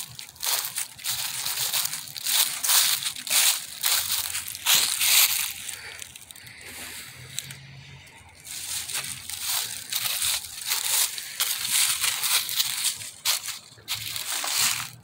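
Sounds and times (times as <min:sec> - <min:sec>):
footsteps crunching on dry ground: 0:00.0 - 0:15.0.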